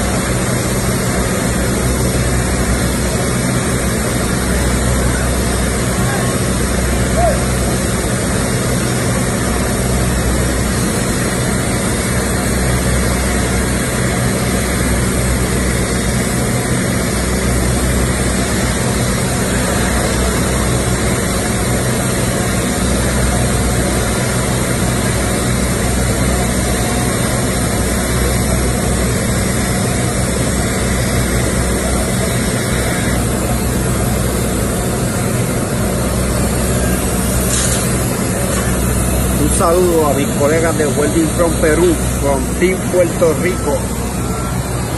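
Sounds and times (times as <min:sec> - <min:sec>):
welding arc crackling hiss: 0:00.0 - 0:44.1
low machine hum: 0:00.0 - 0:44.9.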